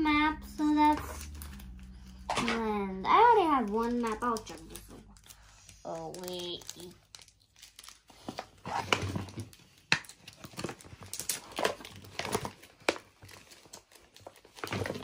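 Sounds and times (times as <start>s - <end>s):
plastic bag crinkling: 0.9s - 15.0s.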